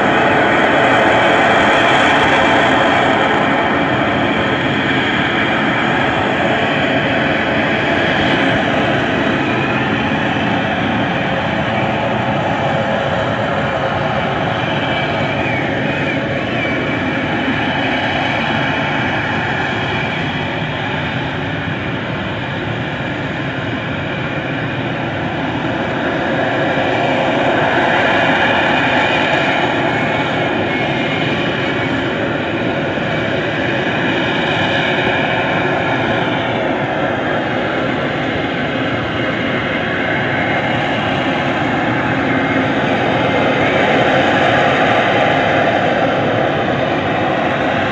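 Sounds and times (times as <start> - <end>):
jet engine roar with whine: 0.0 - 47.9.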